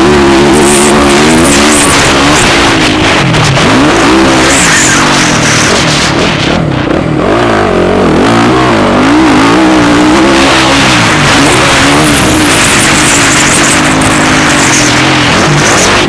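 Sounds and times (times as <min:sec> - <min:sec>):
motocross bike engine revving: 0:00.0 - 0:16.0.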